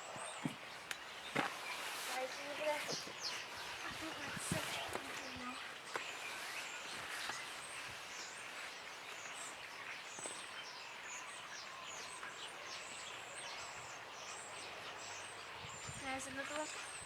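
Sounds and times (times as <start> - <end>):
outdoor noise haze: 0.0 - 17.0
small birds chirping: 0.0 - 17.0.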